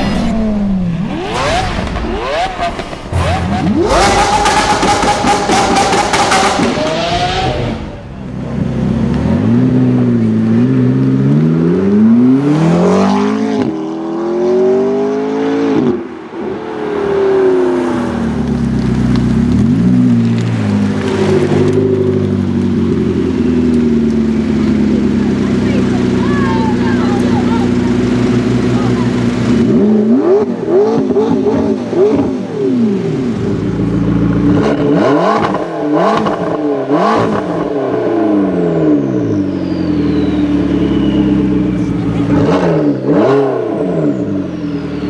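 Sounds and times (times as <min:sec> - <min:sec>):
car engine revving and accelerating: 0:00.0 - 0:45.0.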